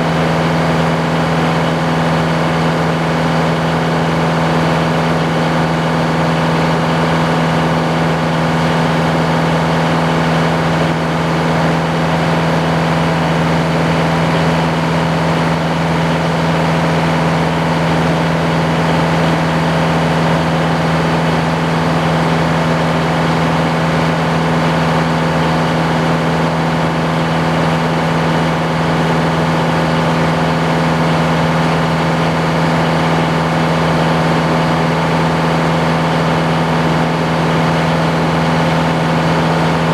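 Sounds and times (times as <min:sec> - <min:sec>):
sawmill engine droning: 0:00.0 - 0:39.9.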